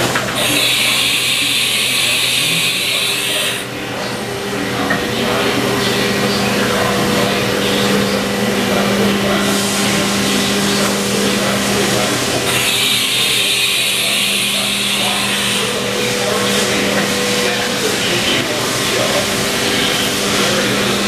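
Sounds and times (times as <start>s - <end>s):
machine-shop machinery humming: 0.0s - 21.0s.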